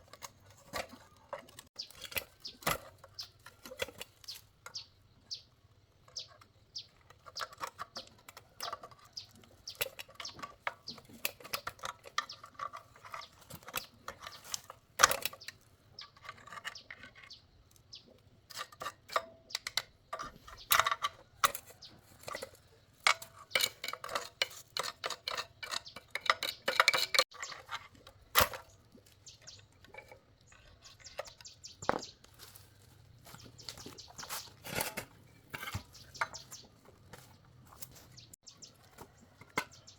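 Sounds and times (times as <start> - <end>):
hand tools clicking and knocking: 0.0 - 39.9
birds chirping faintly: 0.7 - 39.9.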